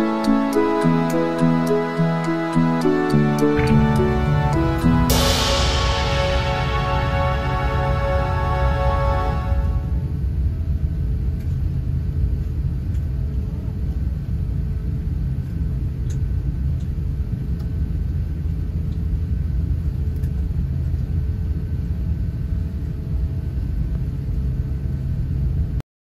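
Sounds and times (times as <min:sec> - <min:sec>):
airliner cabin low rumble: 0:03.5 - 0:25.8.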